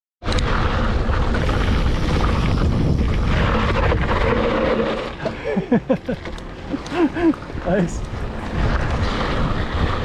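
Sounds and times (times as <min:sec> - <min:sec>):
wind buffeting microphone: 0:00.2 - 0:10.0.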